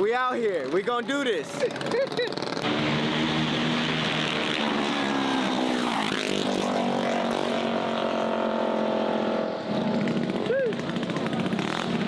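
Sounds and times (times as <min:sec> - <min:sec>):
mini bike engines running: 0:00.0 - 0:12.0.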